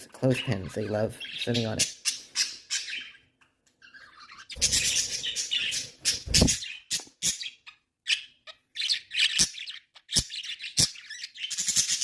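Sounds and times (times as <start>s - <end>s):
budgies chirping: 0.0s - 12.0s.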